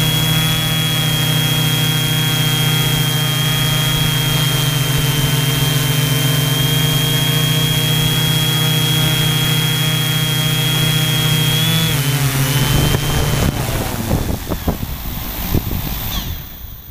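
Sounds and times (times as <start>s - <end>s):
drone motors high-pitched whine: 0.0s - 16.9s.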